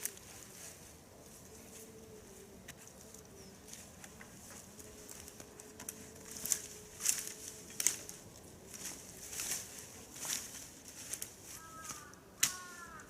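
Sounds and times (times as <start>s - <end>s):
faint steady hum: 0.0s - 13.0s
footsteps crunching on forest path: 0.0s - 13.0s.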